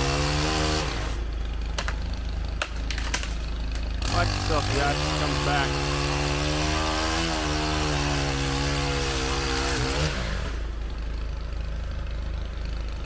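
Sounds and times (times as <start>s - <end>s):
chainsaw engine revving: 0.0s - 12.0s
low engine hum: 0.0s - 13.0s.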